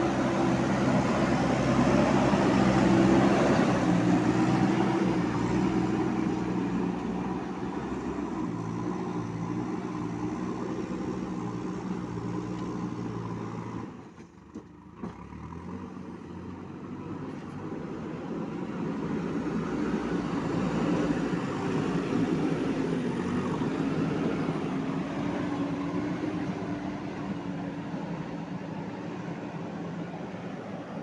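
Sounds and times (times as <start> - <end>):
diesel engine working under load: 0.0 - 31.0.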